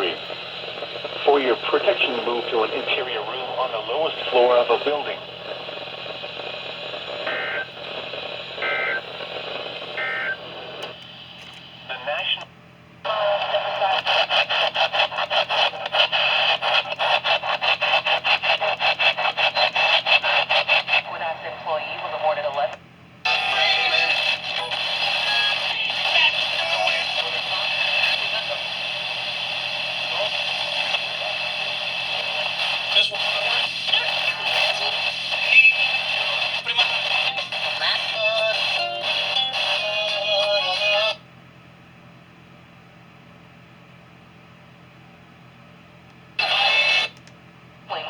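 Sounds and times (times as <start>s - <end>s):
radio static hiss: 0.0s - 41.2s, 46.4s - 47.2s, 47.8s - 48.0s.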